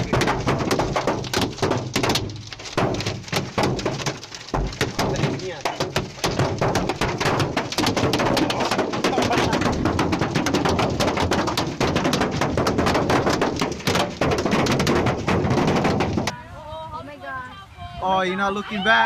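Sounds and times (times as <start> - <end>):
hailstones pelting a car: 0.0 - 16.4.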